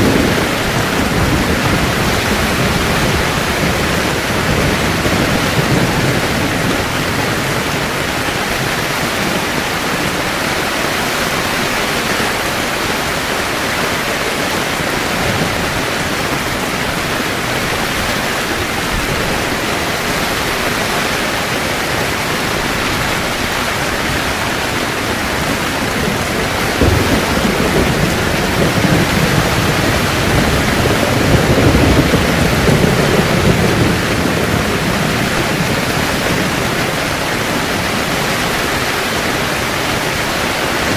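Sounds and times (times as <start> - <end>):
heavy rain on a tent: 0.0 - 40.9
thunder rumble: 0.0 - 40.9.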